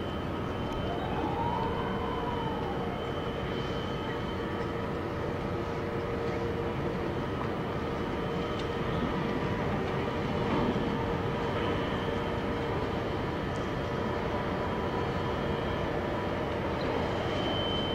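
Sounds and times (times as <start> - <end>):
crane machinery drone: 0.0 - 17.9
steady machinery whine: 0.0 - 17.9.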